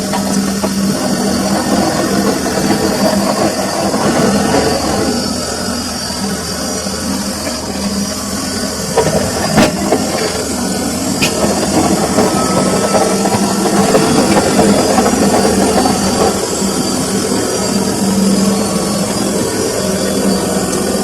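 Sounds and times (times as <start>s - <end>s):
washing machine humming and churning: 0.0s - 21.0s.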